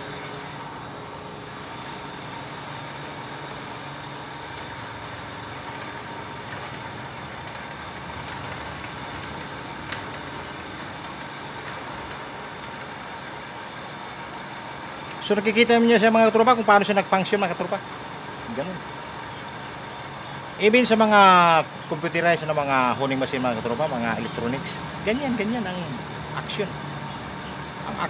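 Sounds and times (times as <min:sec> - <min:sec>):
electric motor hum with whine: 0:00.0 - 0:28.0.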